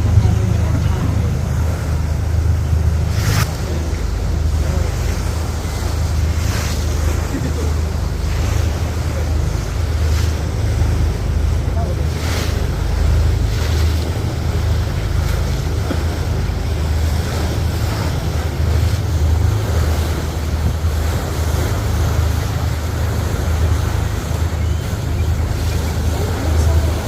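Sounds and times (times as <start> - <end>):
water noise: 0.0 - 27.0
wind buffeting microphone: 0.0 - 27.0.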